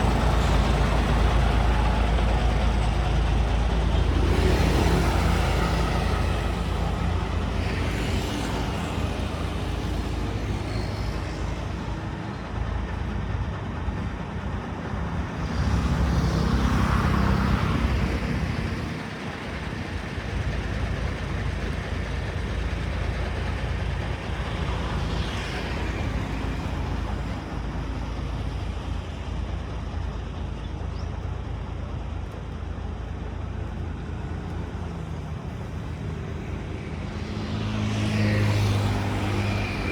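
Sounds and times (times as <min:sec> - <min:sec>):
low traffic rumble: 0:00.0 - 0:39.9
vehicles passing: 0:00.0 - 0:39.9.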